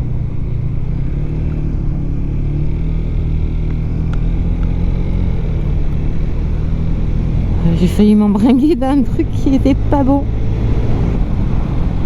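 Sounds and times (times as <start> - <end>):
motorcycle engine drone: 0.0 - 12.0
road noise: 0.0 - 12.0.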